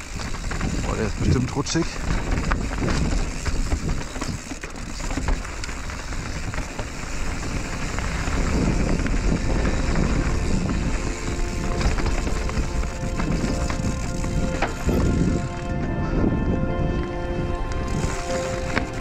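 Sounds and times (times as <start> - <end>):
bike knocks and rattles: 0.0 - 15.3
tyres on dirt and stone: 0.0 - 15.4
wind rumble on microphone: 0.0 - 19.0.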